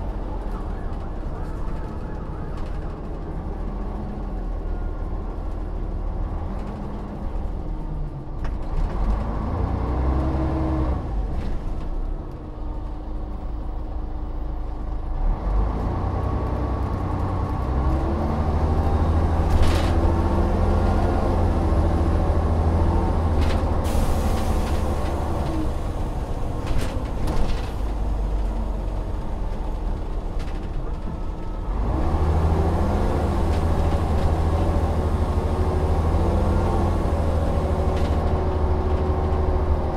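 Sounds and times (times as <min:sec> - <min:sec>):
bus engine pulling through gears: 0:00.0 - 0:39.9.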